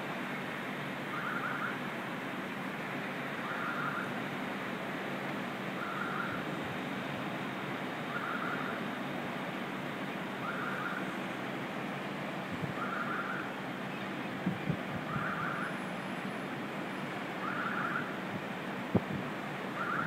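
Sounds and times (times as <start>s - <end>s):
outdoor background rush: 0.0s - 20.0s.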